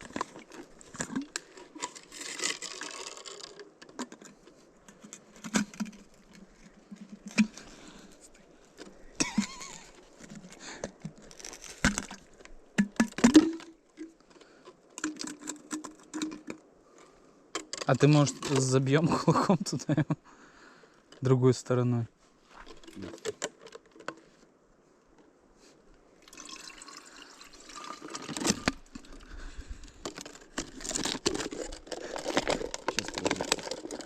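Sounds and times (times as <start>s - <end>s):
rustling: 0.0s - 19.8s, 22.1s - 34.0s.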